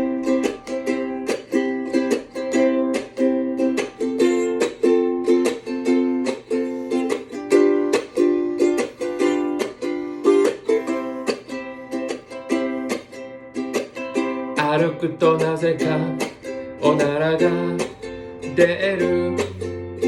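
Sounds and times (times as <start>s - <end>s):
ukulele strumming: 0.0s - 20.0s.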